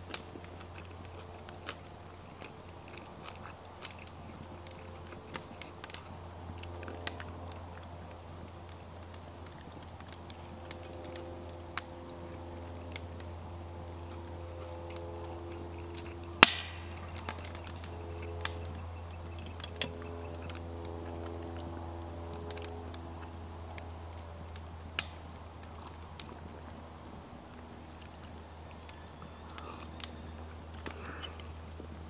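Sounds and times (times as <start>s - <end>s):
chewing noodles: 0.0s - 32.0s.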